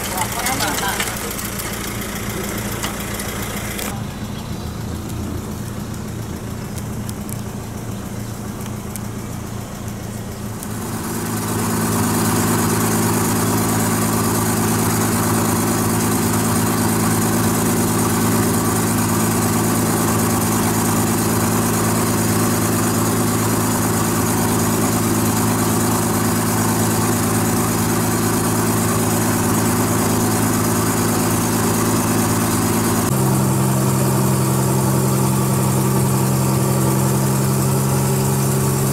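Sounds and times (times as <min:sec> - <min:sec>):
motorboat engine running: 0:00.0 - 0:38.9.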